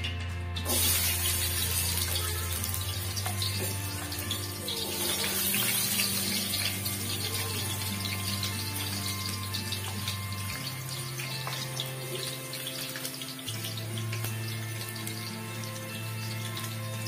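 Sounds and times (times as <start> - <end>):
background music low notes: 0.0 - 17.0
shallots sizzling in hot oil: 0.6 - 17.0.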